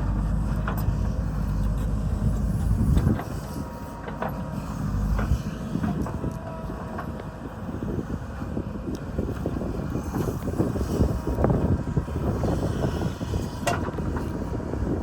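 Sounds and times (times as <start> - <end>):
machinery engine rumble: 0.0 - 15.0
wind buffeting microphone: 0.0 - 15.0.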